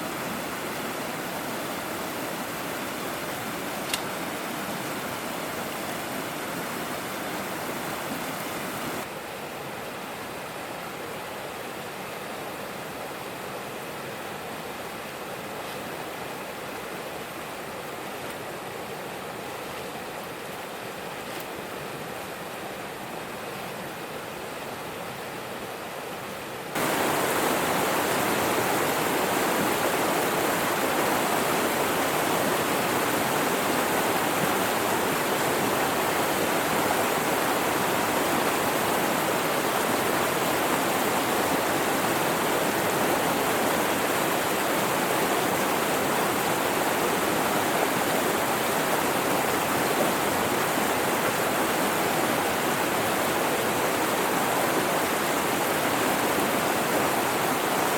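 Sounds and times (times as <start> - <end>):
river water rushing over rocks: 0.0 - 57.9.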